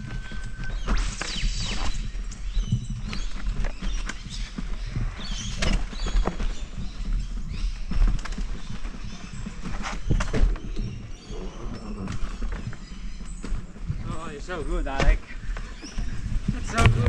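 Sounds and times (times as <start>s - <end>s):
low wind rumble on microphone: 0.0s - 17.0s.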